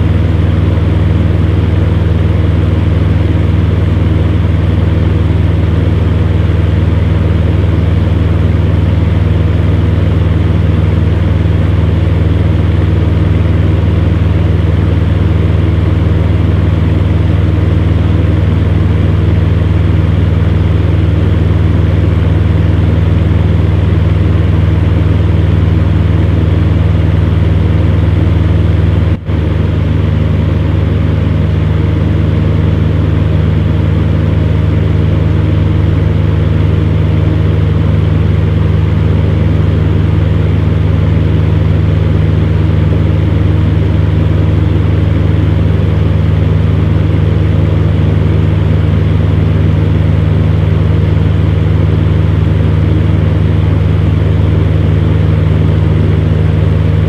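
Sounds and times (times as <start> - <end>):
airy fan noise: 0.0 - 57.0
fan heater motor hum: 0.0 - 57.0.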